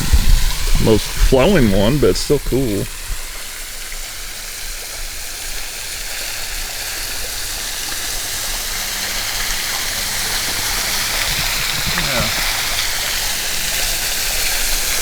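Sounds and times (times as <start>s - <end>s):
small waterfall splashing: 0.0s - 15.0s.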